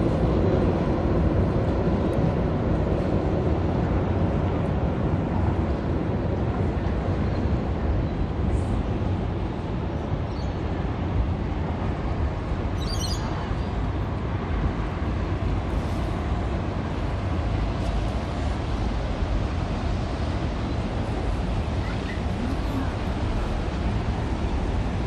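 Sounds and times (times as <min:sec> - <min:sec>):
traffic rumble: 0:00.0 - 0:25.0.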